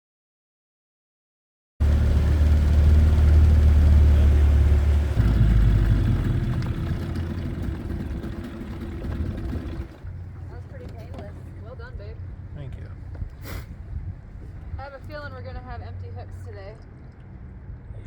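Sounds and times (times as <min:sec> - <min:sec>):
boat motor humming: 0:01.8 - 0:16.7.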